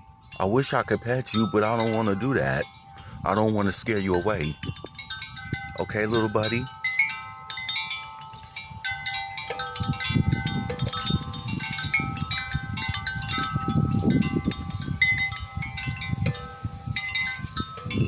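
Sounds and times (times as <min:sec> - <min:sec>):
wind chimes ringing: 0:00.0 - 0:18.0.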